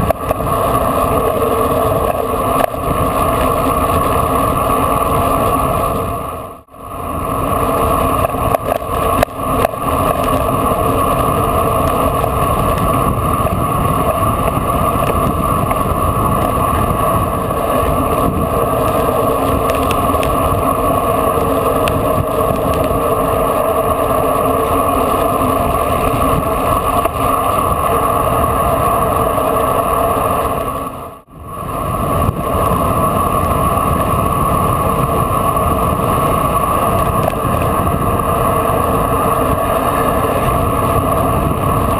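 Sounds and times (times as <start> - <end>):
wind buffeting roar: 0.0 - 41.9.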